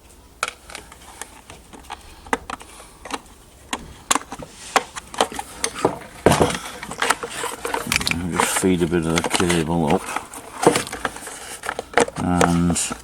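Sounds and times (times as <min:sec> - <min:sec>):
plastic parts clicking: 0:00.4 - 0:13.0.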